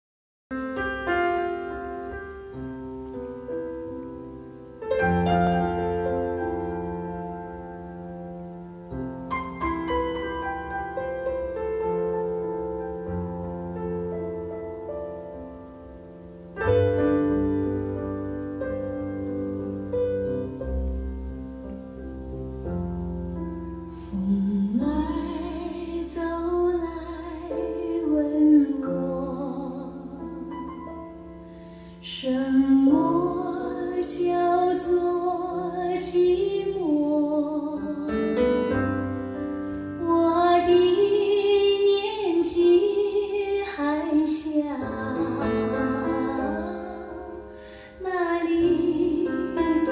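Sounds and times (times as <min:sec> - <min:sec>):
piano chords: 0:00.5 - 0:49.9.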